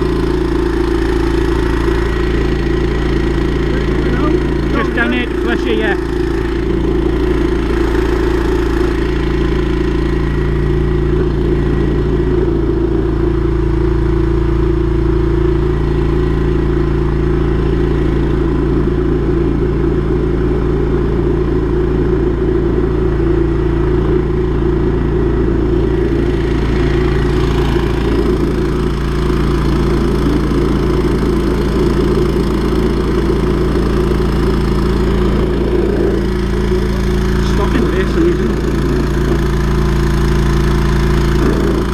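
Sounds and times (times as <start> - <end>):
engine running under load: 0.0 - 41.9.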